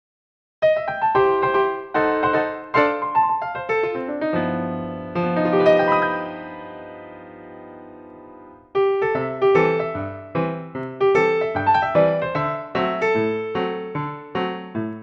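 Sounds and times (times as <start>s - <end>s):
piano music: 0.6s - 15.0s.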